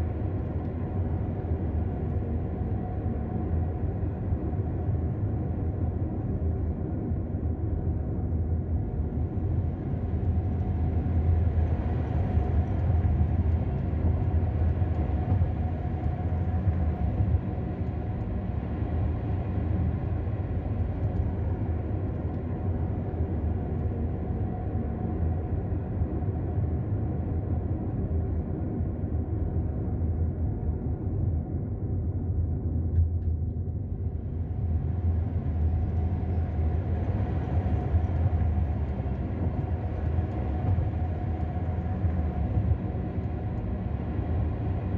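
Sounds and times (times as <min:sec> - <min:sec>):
car engine and tyre rumble: 0:00.0 - 0:44.9.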